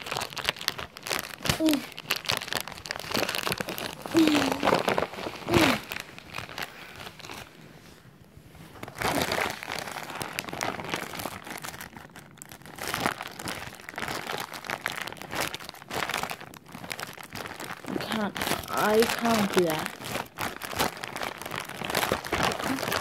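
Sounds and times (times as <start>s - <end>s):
package wrapping crinkling: 0.0s - 7.6s, 8.8s - 23.0s.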